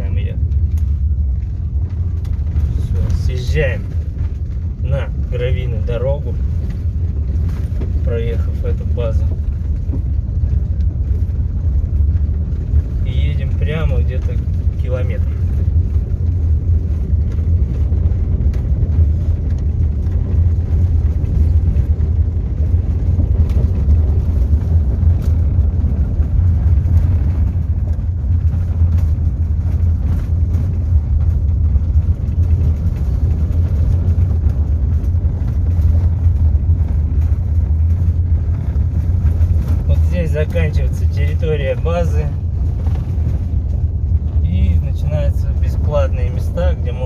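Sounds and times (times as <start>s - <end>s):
gravel ticks: 0.0s - 47.0s
tyre and road rumble: 0.0s - 47.0s.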